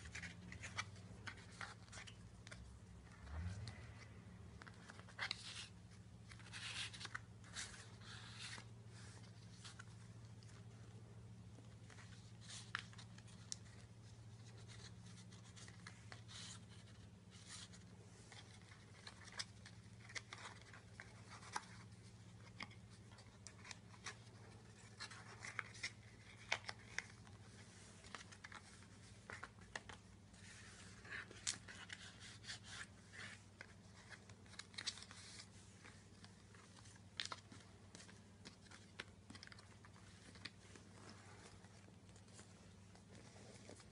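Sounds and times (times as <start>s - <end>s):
paper pages rustling: 0.0s - 10.8s, 11.6s - 43.9s
low steady hum: 0.0s - 43.9s.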